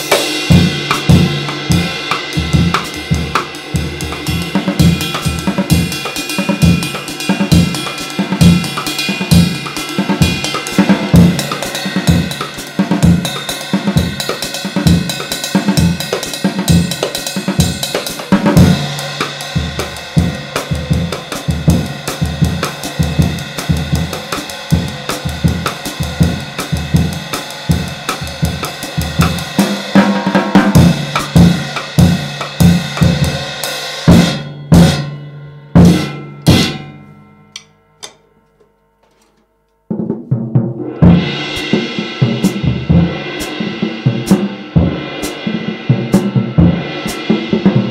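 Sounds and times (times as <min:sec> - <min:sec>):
bass drum and snare strokes: 0:00.0 - 0:35.1, 0:40.0 - 0:47.9.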